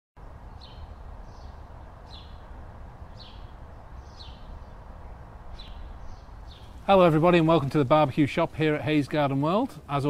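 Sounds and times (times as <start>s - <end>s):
bird chirping: 0.2s - 9.9s.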